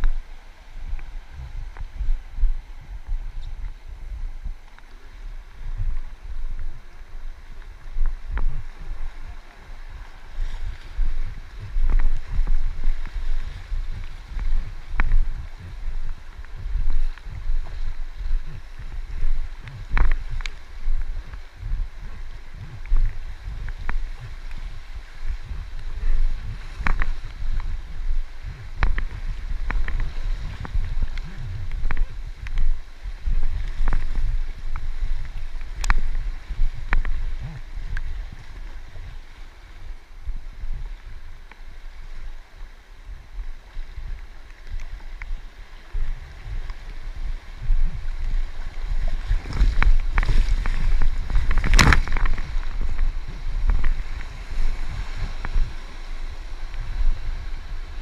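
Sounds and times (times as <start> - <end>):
river water splashing: 0.0 - 58.0
wind rumble on microphone: 0.0 - 58.0.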